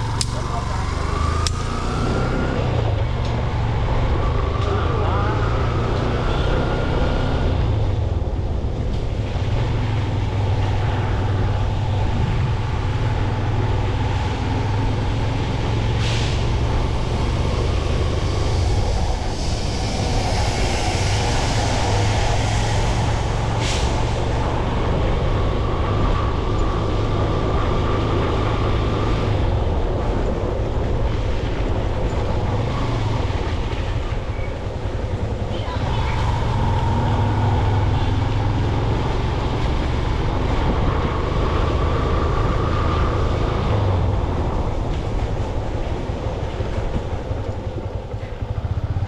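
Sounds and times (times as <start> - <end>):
motorcycle engine rumble: 0.0 - 49.0.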